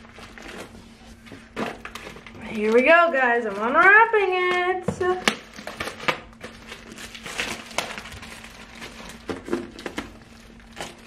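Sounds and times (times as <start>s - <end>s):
plastic shrink wrap crinkling: 0.0s - 11.0s.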